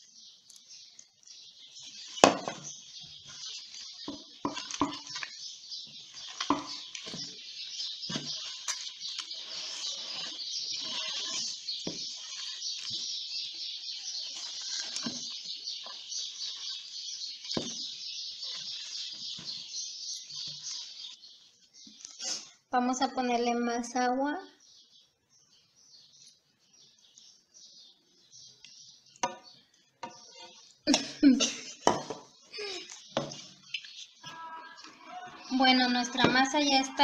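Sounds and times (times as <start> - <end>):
constant high chirping: 0.0 - 37.0.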